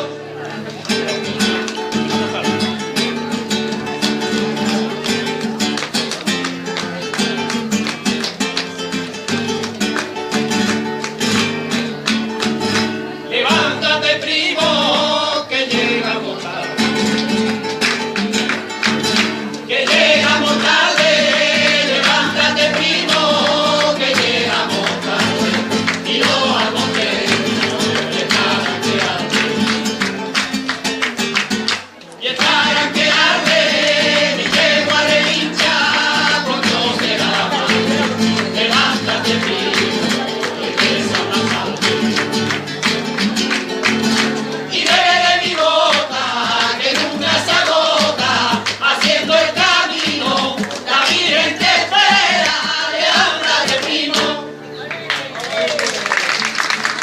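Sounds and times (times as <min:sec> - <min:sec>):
fast flamenco guitar strumming: 0:00.0 - 0:57.0.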